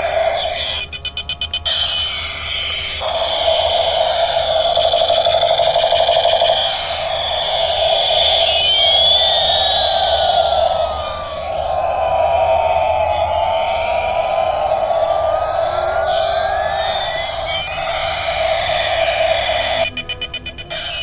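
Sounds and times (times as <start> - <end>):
toy helicopter electronic tones: 0.0 - 21.0.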